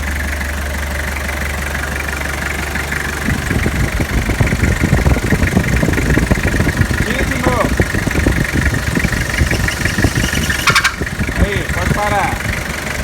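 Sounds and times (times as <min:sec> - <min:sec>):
car engine idling: 0:00.0 - 0:13.0
irregular knocking rattle: 0:01.7 - 0:13.0.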